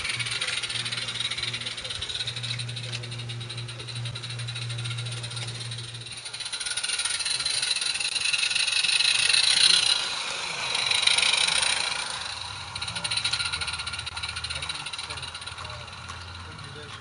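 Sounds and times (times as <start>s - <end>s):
low steady hum: 0.0s - 17.0s
steam locomotive chuffing hiss: 0.0s - 17.0s.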